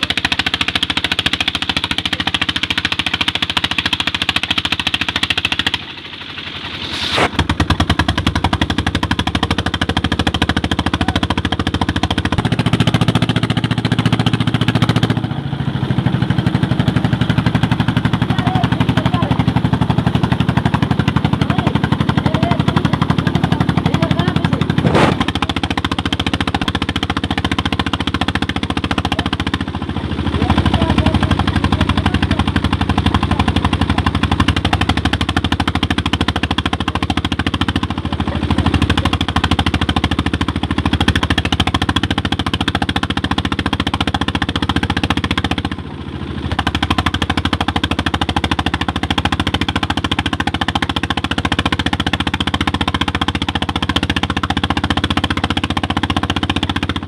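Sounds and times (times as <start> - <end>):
diesel engine chattering: 0.0 - 57.0.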